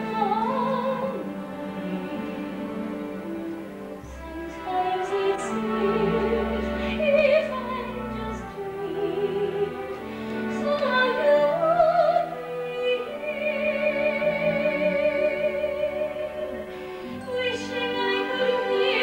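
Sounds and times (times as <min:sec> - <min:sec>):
woman singing soprano: 0:00.0 - 0:03.4, 0:04.1 - 0:19.0
orchestral accompaniment: 0:00.0 - 0:19.0.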